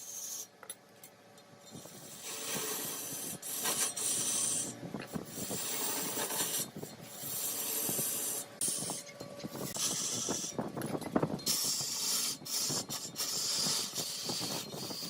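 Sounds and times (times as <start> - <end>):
lathe tool scraping wood: 1.7 - 10.7, 11.4 - 15.0.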